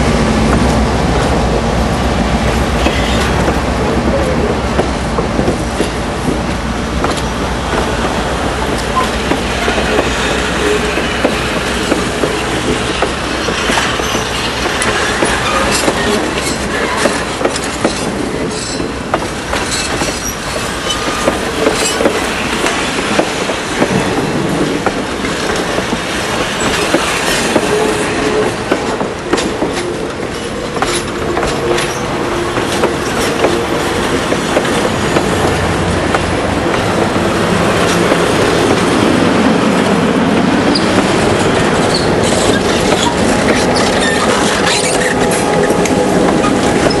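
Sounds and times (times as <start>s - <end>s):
rail joint clicks: 0.0s - 47.0s
train wheels rumbling on rail: 0.0s - 47.0s.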